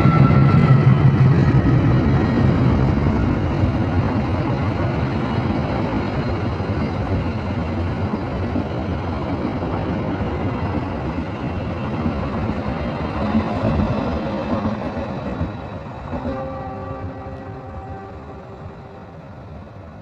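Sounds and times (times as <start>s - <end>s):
diesel train rumbling past: 0.0s - 20.0s.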